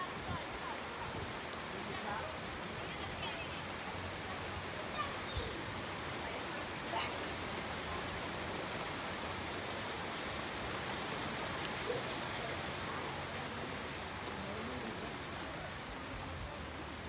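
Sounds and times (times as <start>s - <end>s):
pouring rain: 0.0s - 17.0s.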